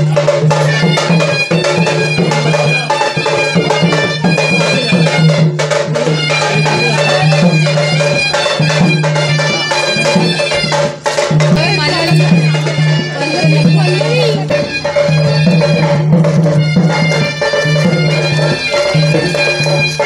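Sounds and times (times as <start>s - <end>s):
bagpipe-like drone: 0.0s - 20.0s
drum beats: 0.0s - 20.0s
reedy wind instrument melody: 0.0s - 20.0s.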